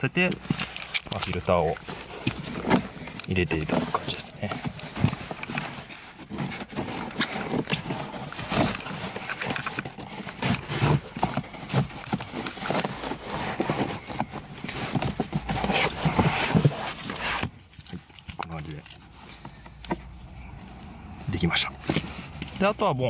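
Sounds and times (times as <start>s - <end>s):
clicks and rustles of handling: 0.0s - 23.0s
filter frame scraping plastic: 0.1s - 20.8s.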